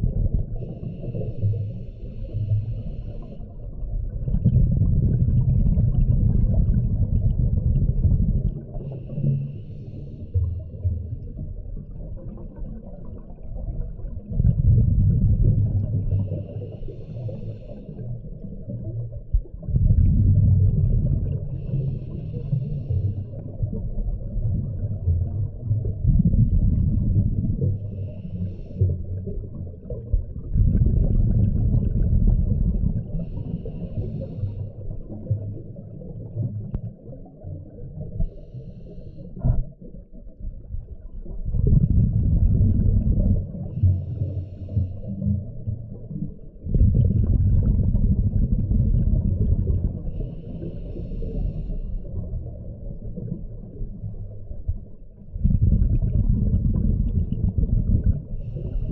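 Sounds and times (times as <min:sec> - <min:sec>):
exhaled bubbles rumbling underwater: 0:00.0 - 0:58.9.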